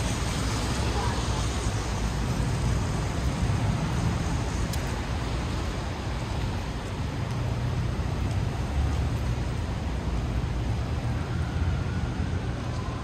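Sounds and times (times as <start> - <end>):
city traffic rumble: 0.0 - 13.0
rain hiss: 0.0 - 13.0.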